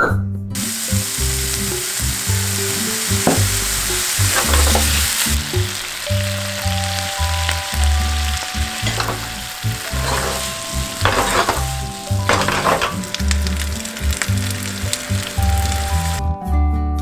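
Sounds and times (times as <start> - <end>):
pasta sizzling in a frying pan: 0.6 - 16.2.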